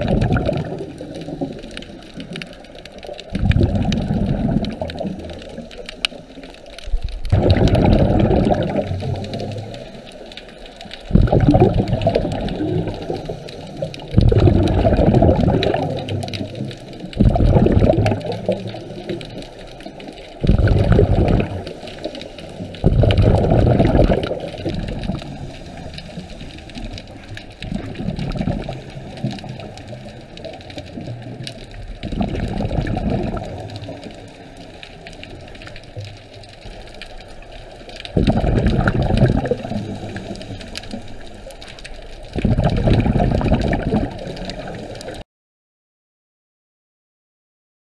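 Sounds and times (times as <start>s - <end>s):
underwater regulator bubbling: 0.0s - 45.2s.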